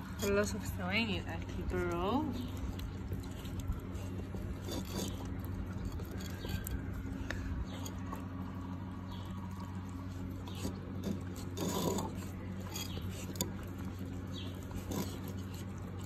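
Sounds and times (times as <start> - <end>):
puppies lapping: 0.0 - 16.0
steady low hum: 0.0 - 16.0.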